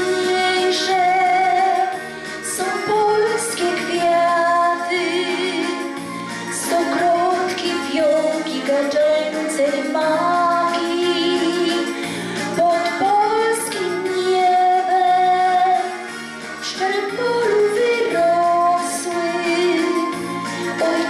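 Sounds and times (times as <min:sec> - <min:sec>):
musical accompaniment: 0:00.0 - 0:21.0
woman singing into a microphone: 0:00.0 - 0:21.0.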